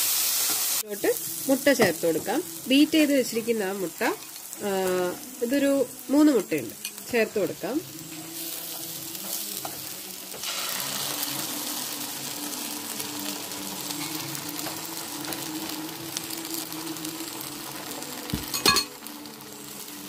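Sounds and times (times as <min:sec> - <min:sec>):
eggs sizzling in a pan: 0:00.0 - 0:20.0.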